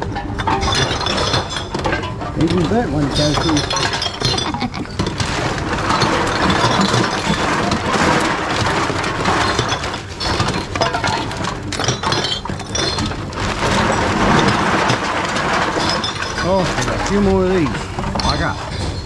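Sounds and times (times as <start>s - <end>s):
bottles and cans clattering: 0.0s - 19.0s.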